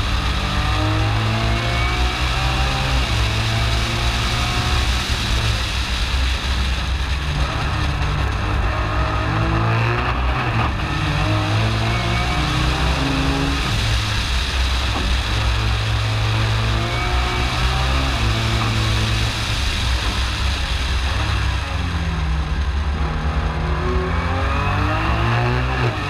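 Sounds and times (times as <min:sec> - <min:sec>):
car engine revving at speed: 0:00.0 - 0:26.0.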